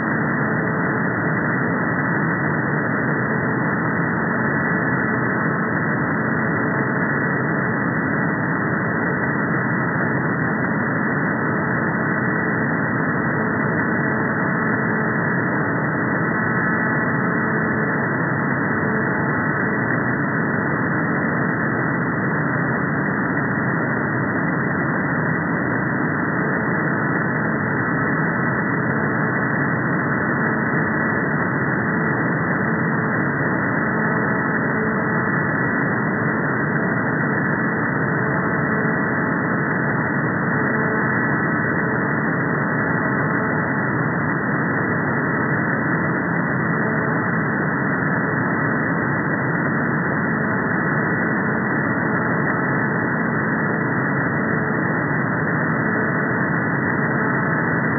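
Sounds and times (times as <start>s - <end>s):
faint pulsed radar tones: 0.0s - 57.9s.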